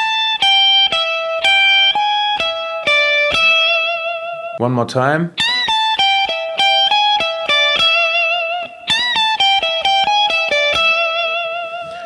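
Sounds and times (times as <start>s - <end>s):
electric guitar lead: 0.0s - 4.6s, 5.3s - 12.0s.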